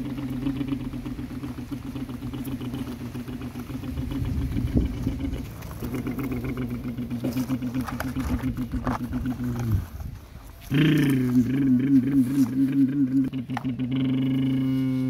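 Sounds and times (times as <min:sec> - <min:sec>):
heavy diesel engine running: 0:00.0 - 0:14.8.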